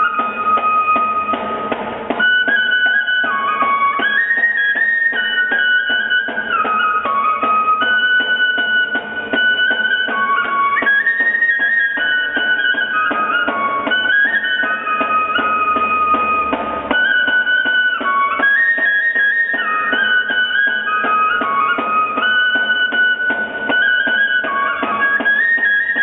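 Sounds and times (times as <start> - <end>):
flute melody: 0.0 - 26.0.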